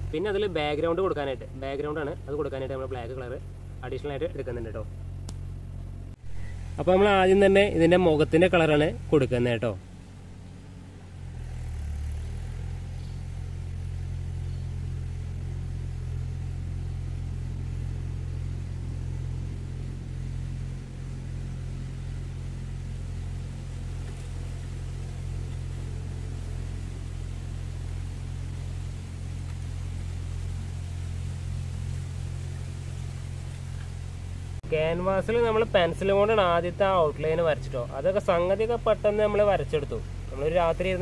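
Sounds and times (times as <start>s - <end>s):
tractor engine droning: 0.0s - 41.0s.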